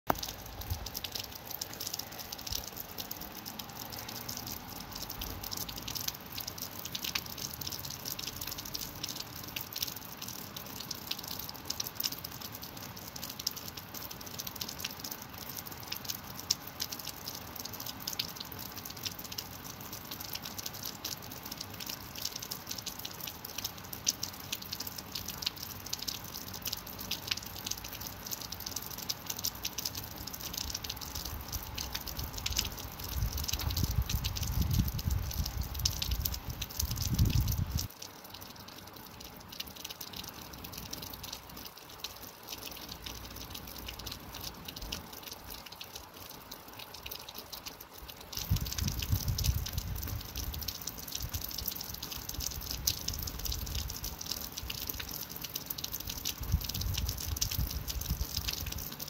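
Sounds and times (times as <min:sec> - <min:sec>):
rain falling: 0:00.1 - 0:59.0.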